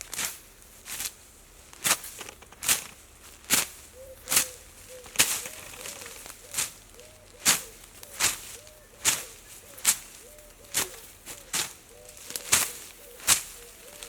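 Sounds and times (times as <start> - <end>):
footsteps swishing through grass: 0.0 - 14.0.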